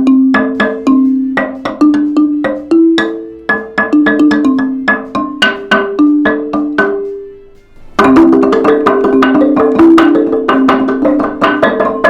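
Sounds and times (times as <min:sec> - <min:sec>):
xylophone notes: 0:00.0 - 0:12.0.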